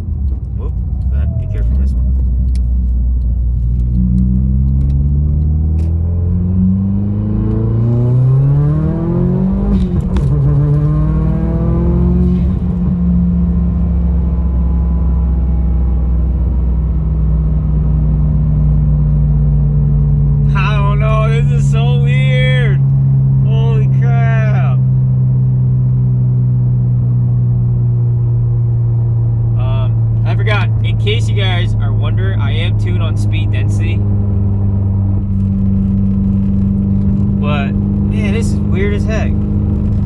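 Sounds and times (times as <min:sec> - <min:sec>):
car engine accelerating hard: 0:00.0 - 0:40.0.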